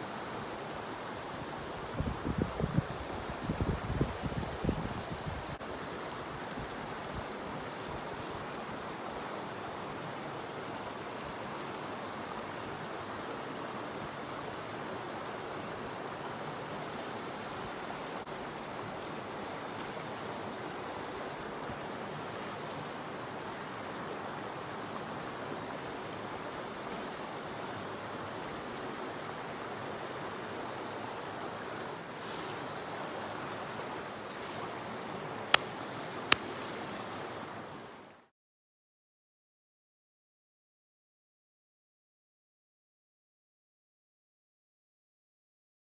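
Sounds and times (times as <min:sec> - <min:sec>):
river water flowing: 0:00.0 - 0:38.3.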